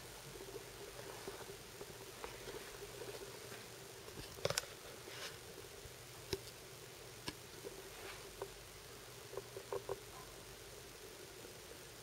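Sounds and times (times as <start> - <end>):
faint hiss and hum: 0.0 - 12.0.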